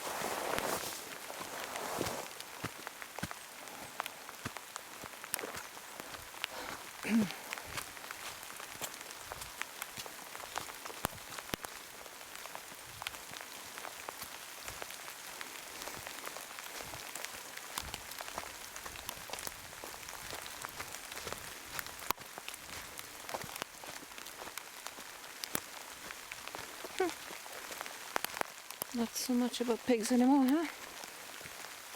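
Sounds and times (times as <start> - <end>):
heavy rain falling: 0.0 - 31.9
raindrops ticking close by: 2.2 - 31.9.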